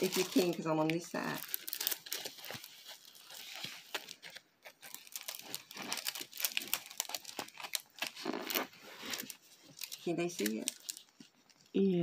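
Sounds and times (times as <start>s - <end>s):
plastic wrapping crinkling: 0.0s - 11.8s.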